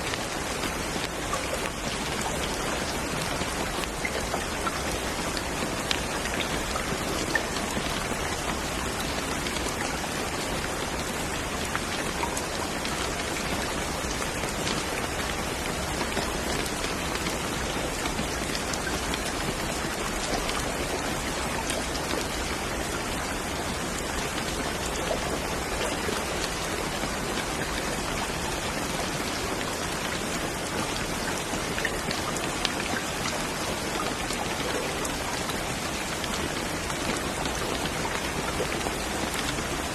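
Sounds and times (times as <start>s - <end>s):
raindrops ticking on surface: 0.0s - 39.9s
steady rain hiss: 0.0s - 39.9s.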